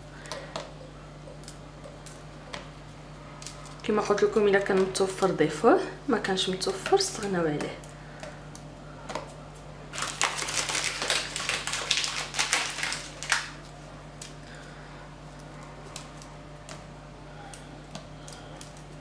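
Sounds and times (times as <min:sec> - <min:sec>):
cookies crunching and cracking: 0:00.0 - 0:05.3, 0:06.6 - 0:19.0.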